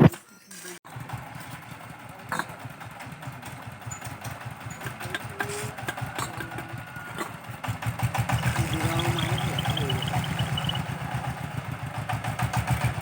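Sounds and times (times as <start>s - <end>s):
small engine idling: 0.8s - 13.0s.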